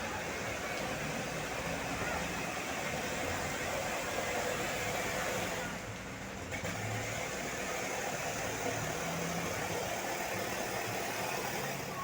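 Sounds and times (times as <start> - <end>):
vehicle engines running: 0.0 - 12.0.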